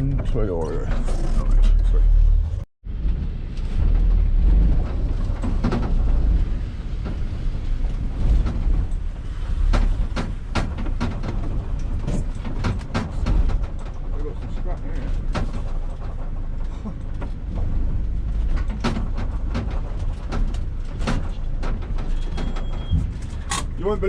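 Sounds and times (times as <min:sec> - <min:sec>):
engine and road rumble: 0:00.0 - 0:24.0
scrap metal knocking and rattling: 0:02.8 - 0:24.0.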